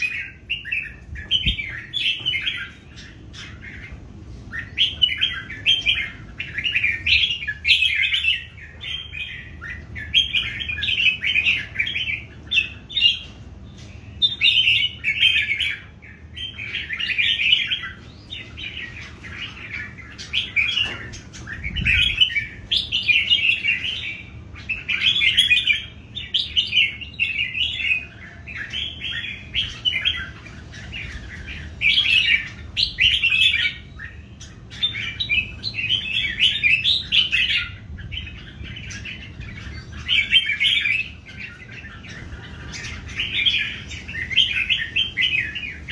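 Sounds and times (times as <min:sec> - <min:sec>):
bulbuls singing: 0:00.0 - 0:45.9.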